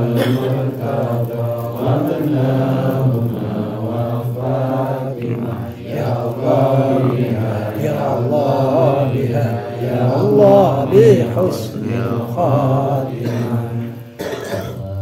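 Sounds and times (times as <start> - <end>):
men chanting prayers: 0.0 - 15.0.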